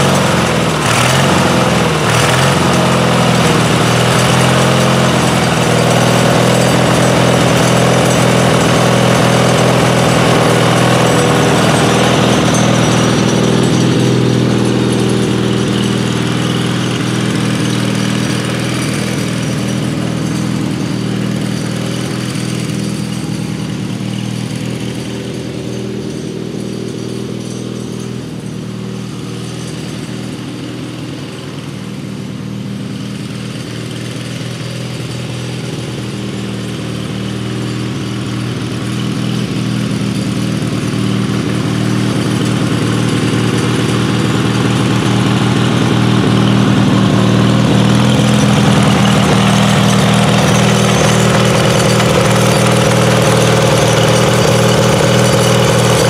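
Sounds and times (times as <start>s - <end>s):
garden tractor engine running: 0.0s - 56.0s.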